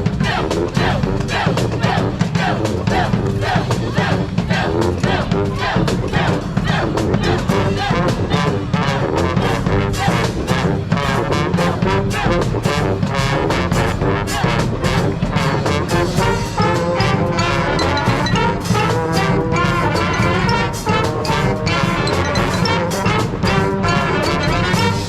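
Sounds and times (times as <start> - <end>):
street brass band playing: 0.0 - 25.0
trombones and trumpets playing tune: 0.0 - 25.0.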